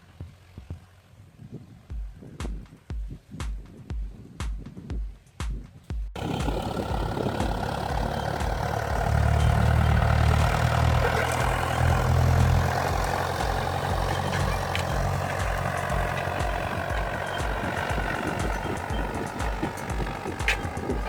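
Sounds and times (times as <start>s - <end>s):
tractor diesel engine running: 0.0s - 2.4s, 6.2s - 21.0s.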